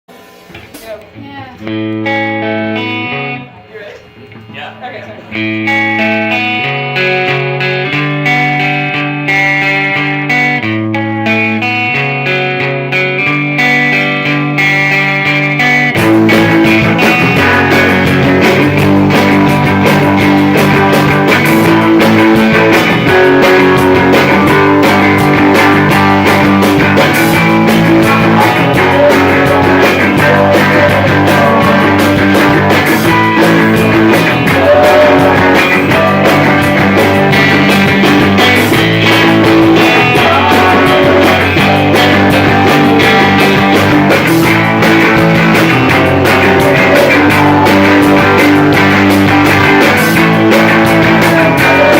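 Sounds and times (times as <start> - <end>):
loud electric guitar: 0.1 - 51.9
full band backing: 0.2 - 51.9.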